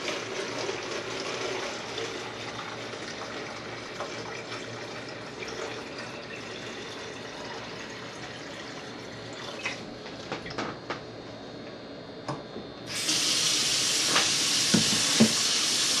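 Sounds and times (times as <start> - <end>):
water running from a tap: 0.0 - 9.8, 12.9 - 16.0.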